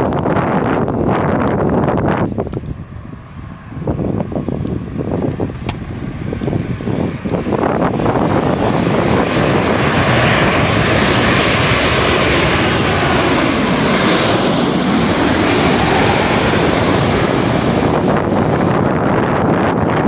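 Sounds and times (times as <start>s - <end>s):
jet engines passing overhead: 0.0s - 20.0s.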